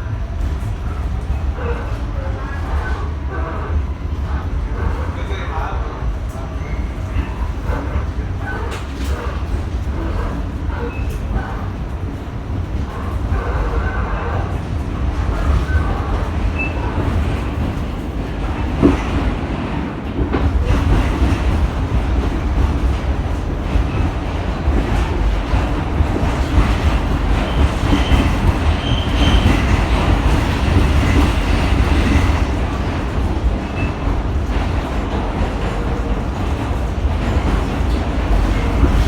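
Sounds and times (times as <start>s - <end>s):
subway train wheels rumbling: 0.0s - 39.0s.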